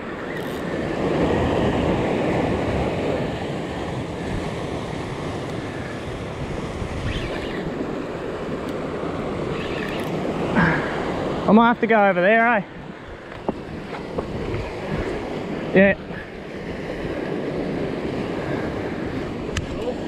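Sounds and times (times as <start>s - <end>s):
wind buffeting microphone: 0.0s - 11.5s, 12.7s - 20.0s
ocean swell washing over rocks: 0.0s - 20.0s.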